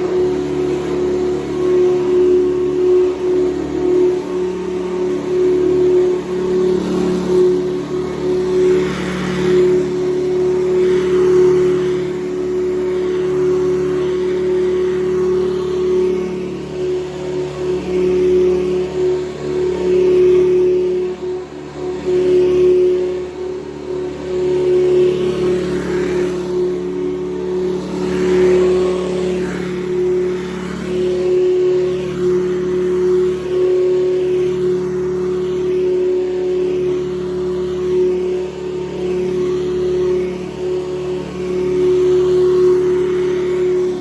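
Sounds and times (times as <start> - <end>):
upright vacuum cleaner humming: 0.0 - 44.0.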